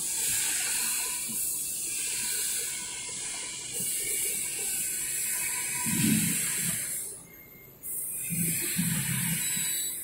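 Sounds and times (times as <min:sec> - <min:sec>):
milling machine cutting metal: 0:00.0 - 0:07.1, 0:08.1 - 0:10.0.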